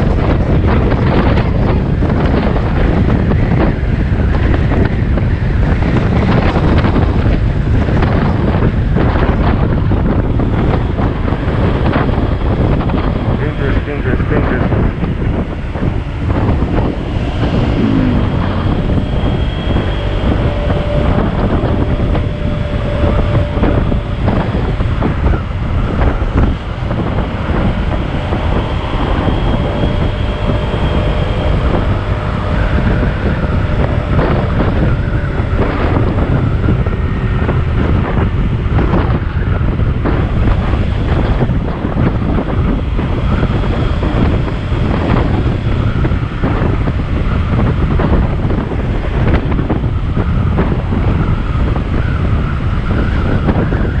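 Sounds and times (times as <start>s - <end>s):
scooter engine running: 0.0s - 54.0s
wind rushing over microphone: 0.0s - 54.0s.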